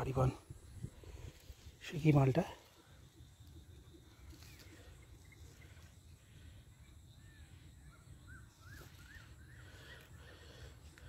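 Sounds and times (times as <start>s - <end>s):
faint bird chirps: 2.0s - 11.0s.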